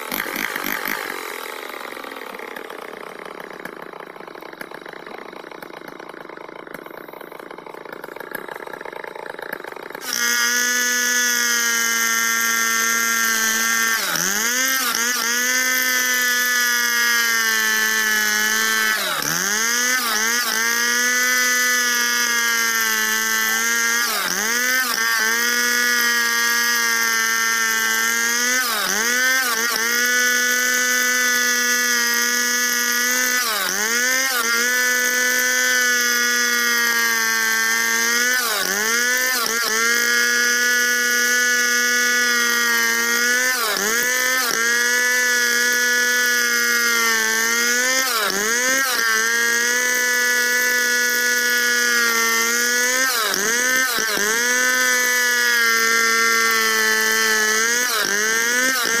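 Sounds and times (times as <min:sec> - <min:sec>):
chainsaw cutting log at high revs: 0:00.0 - 0:59.0.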